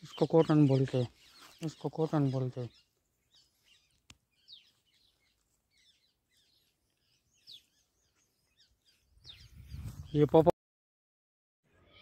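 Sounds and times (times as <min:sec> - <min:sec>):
faint bird chirps: 0:00.0 - 0:10.4.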